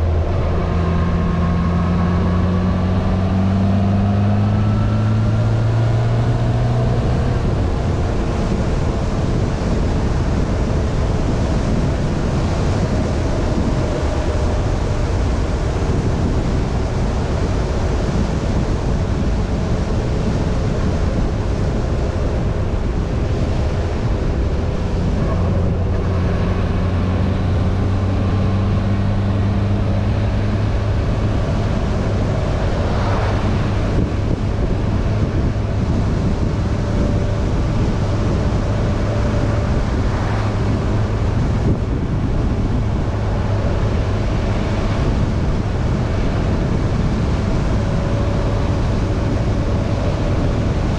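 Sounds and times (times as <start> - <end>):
motorcycle engine cruising: 0.0 - 50.9
wind rushing over microphone: 0.0 - 50.9.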